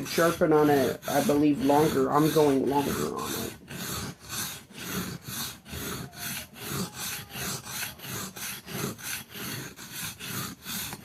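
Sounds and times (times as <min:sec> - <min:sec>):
knife grinding on whetstone: 0:00.0 - 0:11.0.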